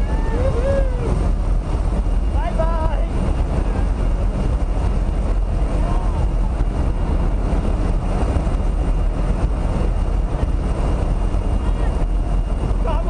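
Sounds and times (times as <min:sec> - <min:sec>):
plane engine in cabin: 0:00.0 - 0:13.0
wind noise: 0:00.0 - 0:13.0.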